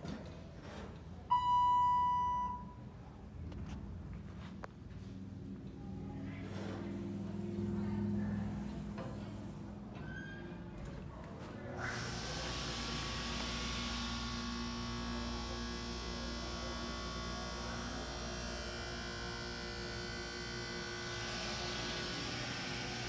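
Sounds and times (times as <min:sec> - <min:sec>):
elevator electrical hum and whine: 0:00.0 - 0:23.0.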